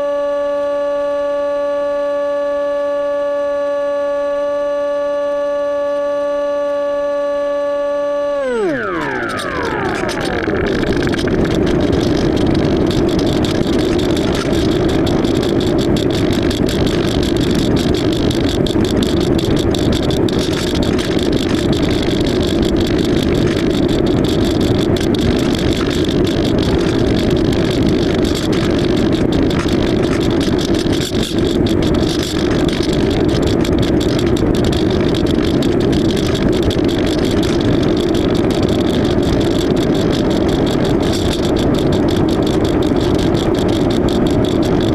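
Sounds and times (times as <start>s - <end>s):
model plane motor whirring: 0.0s - 44.9s.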